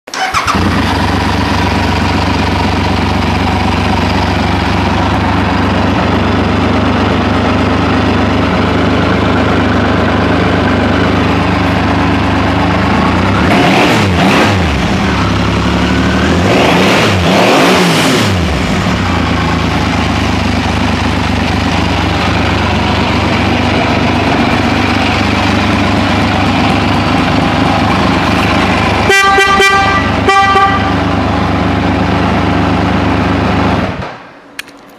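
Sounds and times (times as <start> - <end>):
motorcycle engine idling and revving: 0.1 - 34.8.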